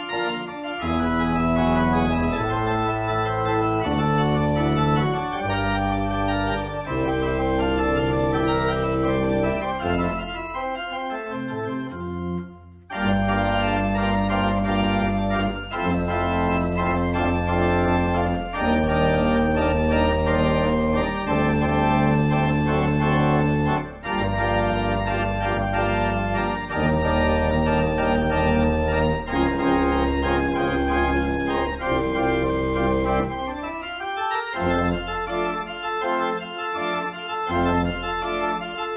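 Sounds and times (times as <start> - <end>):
organ music: 0.0 - 38.9.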